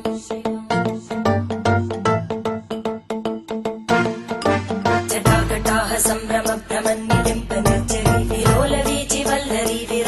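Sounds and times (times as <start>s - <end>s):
background music with a beat: 0.0s - 10.0s.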